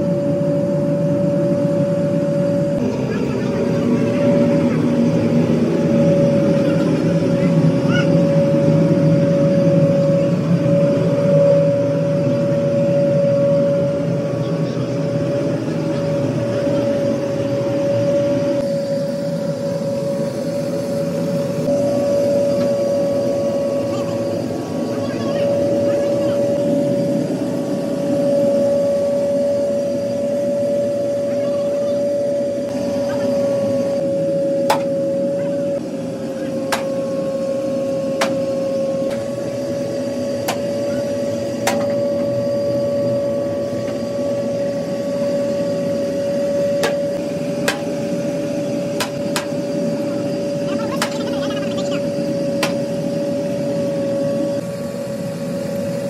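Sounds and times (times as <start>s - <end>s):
constant whining tone: 0.0s - 56.0s
electric air blower humming: 0.0s - 56.0s
machine drone: 0.0s - 56.0s.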